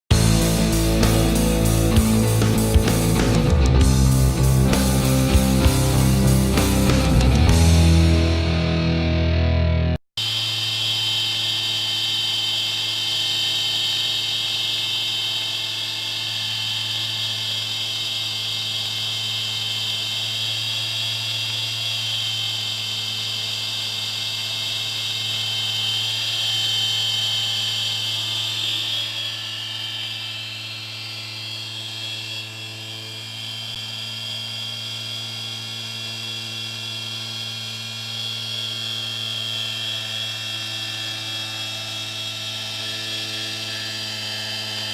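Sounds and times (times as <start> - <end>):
electric motor whining: 0.1 - 8.7, 10.2 - 44.9.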